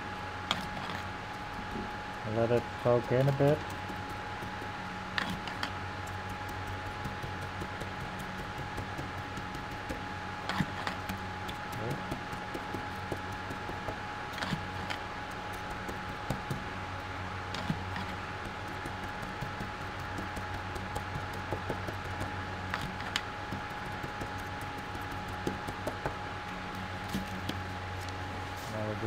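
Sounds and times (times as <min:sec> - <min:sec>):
electric fan humming: 0:00.0 - 0:29.0.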